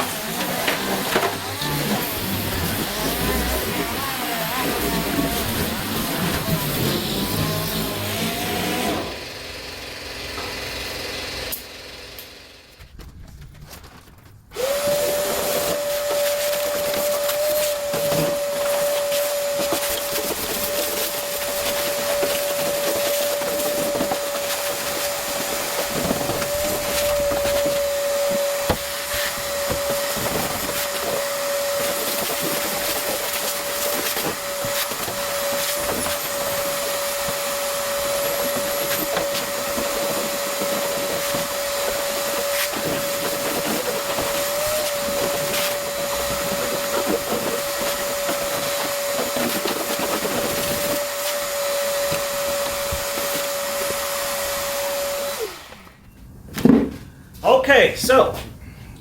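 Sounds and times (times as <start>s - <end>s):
power sander on steel: 0.0s - 9.4s, 14.5s - 56.0s.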